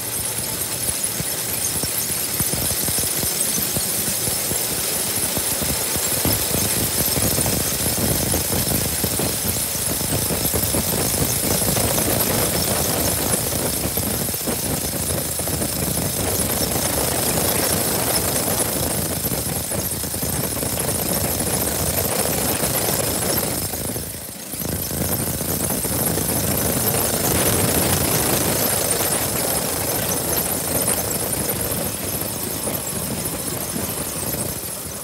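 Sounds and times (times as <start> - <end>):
farm machinery running: 0.0 - 35.0.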